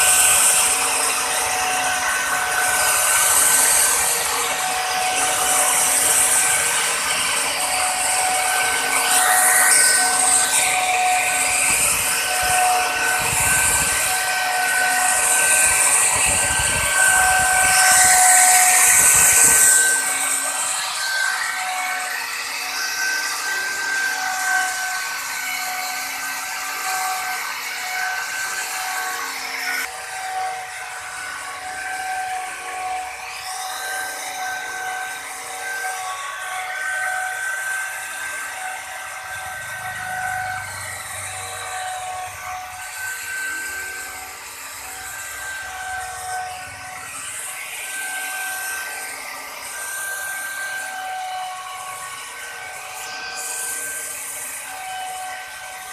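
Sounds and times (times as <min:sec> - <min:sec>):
router bit cutting wood: 0:00.0 - 0:55.9
router motor whine: 0:00.0 - 0:55.9.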